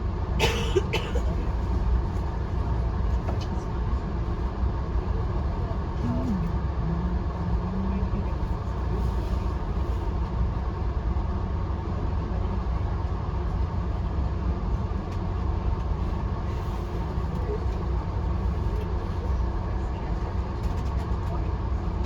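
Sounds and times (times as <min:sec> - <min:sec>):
train rumble and wheels on rail: 0:00.0 - 0:22.0.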